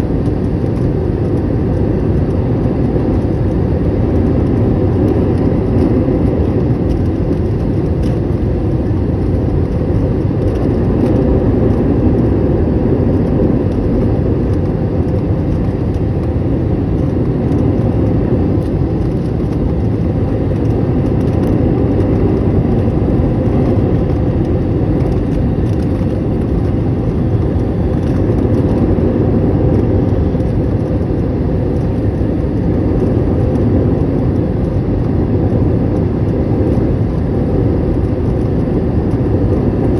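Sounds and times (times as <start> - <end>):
jet airliner cabin engine noise: 0.0 - 39.9.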